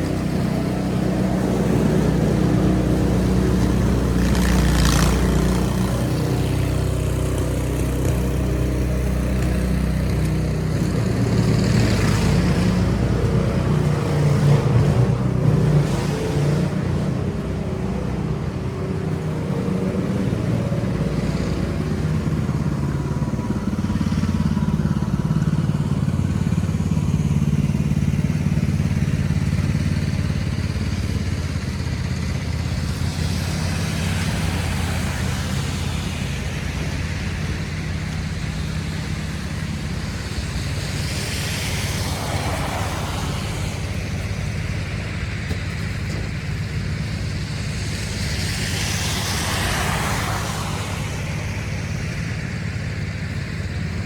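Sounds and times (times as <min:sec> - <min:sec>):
low engine rumble: 0:00.0 - 0:54.0
vehicles passing: 0:00.0 - 0:54.0.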